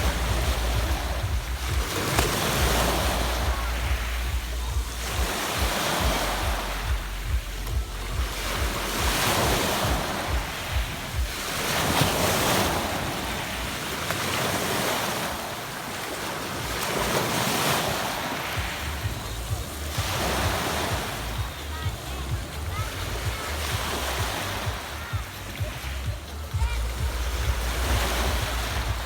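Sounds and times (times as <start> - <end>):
waves breaking on pebble beach: 0.0 - 29.0
wind buffeting microphone: 0.0 - 29.0.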